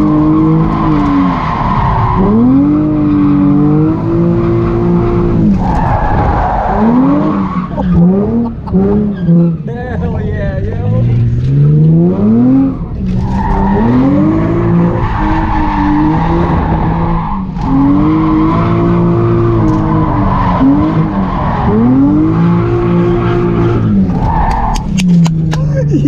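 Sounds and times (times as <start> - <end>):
car engine revving: 0.0 - 26.0
tires screeching: 0.0 - 26.0.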